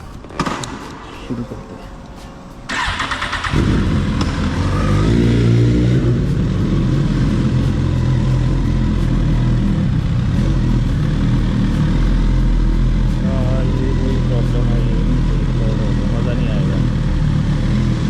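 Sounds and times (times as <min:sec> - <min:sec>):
motorcycle engine idling: 0:02.7 - 0:18.0.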